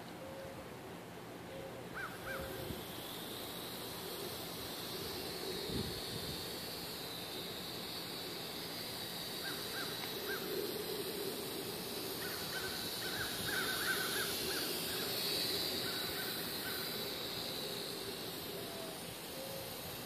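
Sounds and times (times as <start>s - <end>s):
bird calling: 1.5s - 6.1s, 7.0s - 20.0s
quadcopter propellers whining: 2.1s - 20.0s.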